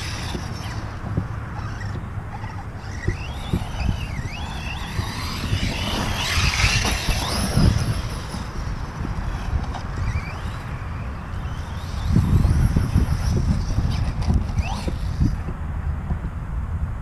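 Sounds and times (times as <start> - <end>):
electric toy car motor whine: 0.0 - 15.5.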